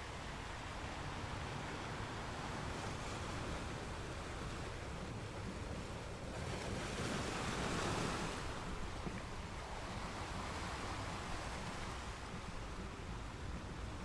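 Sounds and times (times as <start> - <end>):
ocean surf on sandy beach: 0.0 - 14.0.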